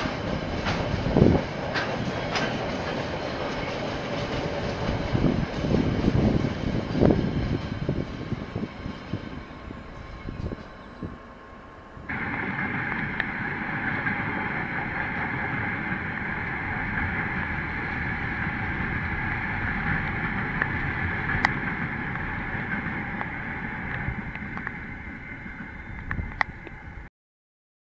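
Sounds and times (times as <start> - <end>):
train wheels rolling on rails: 0.0 - 27.1.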